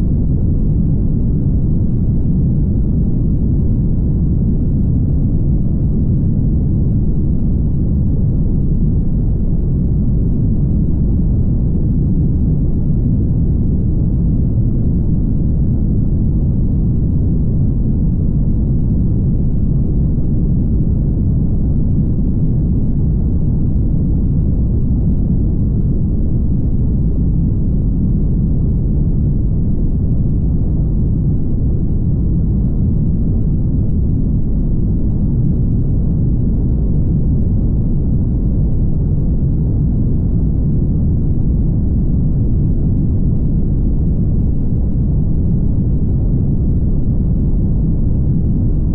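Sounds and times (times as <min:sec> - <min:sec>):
wind noise: 0:00.0 - 0:48.9.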